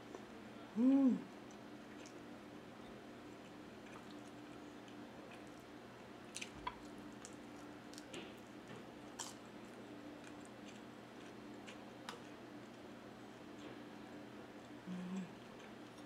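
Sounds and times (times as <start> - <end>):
faint chewing: 0.9 - 16.0.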